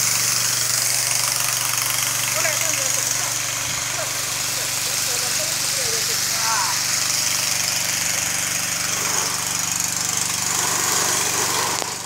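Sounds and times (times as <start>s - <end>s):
truck engine running: 0.0s - 12.0s
water jet spraying: 0.0s - 12.0s.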